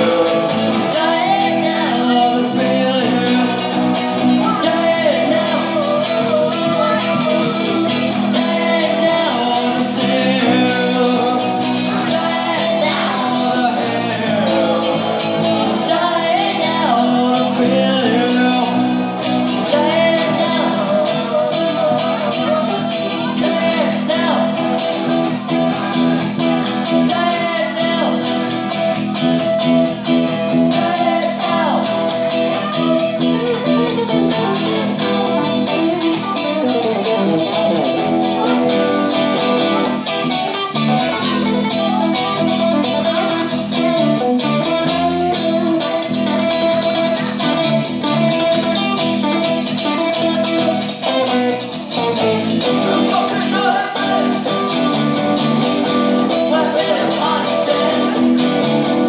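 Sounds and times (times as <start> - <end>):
electric guitar bending notes: 0.0 - 59.0
rock band playing: 0.0 - 59.0.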